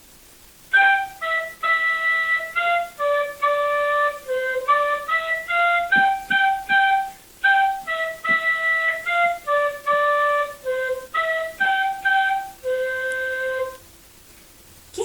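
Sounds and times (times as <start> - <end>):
flute melody: 0.7 - 13.9.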